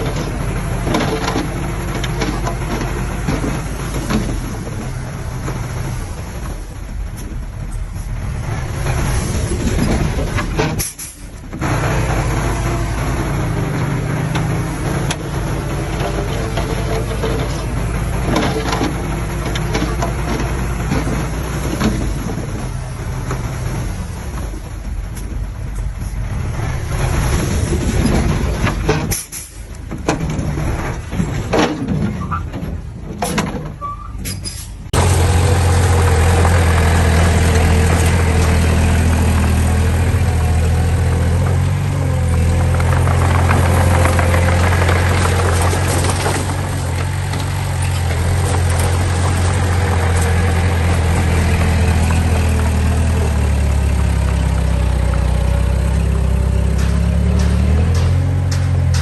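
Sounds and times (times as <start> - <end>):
knocks and clanks: 0.0 - 8.1, 8.7 - 23.6, 24.4 - 59.0
diesel engine running: 0.0 - 31.5, 34.9 - 59.0.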